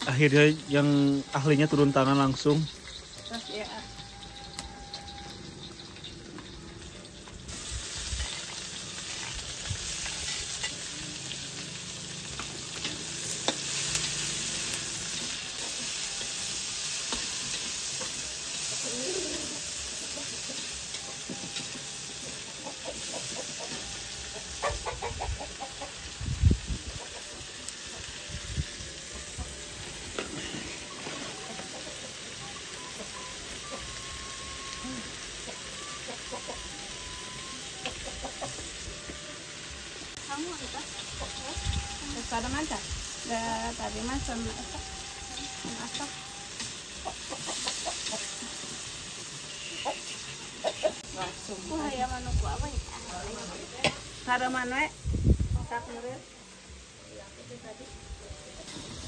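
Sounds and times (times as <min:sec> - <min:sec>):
vegetables sizzling in a wok: 0:00.0 - 0:59.0.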